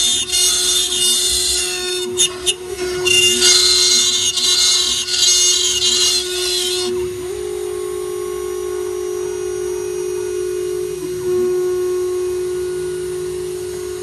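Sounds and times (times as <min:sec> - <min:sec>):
hissing wood cutting noise: 0:00.0 - 0:14.0
router spindle whine: 0:00.0 - 0:14.0.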